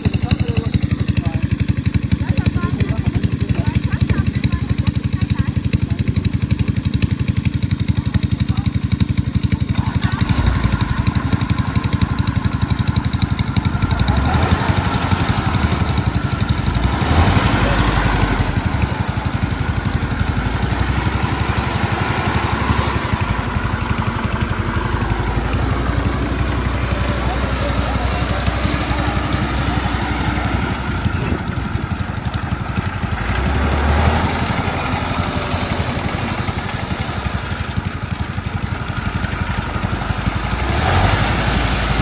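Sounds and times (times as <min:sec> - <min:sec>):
farm machinery engine running: 0:00.0 - 0:42.0.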